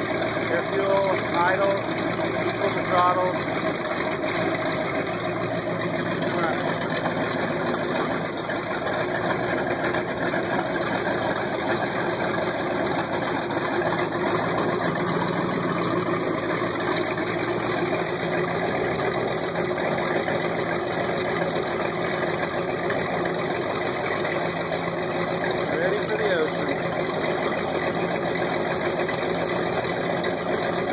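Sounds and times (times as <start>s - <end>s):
boat engines idling: 0.0s - 30.9s.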